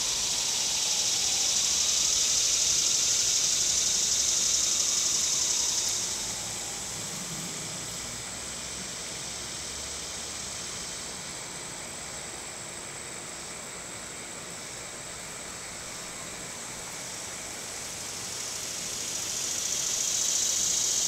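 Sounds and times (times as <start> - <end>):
high-pitched hiss: 0.0 - 21.0
outdoor background hiss: 0.0 - 21.0.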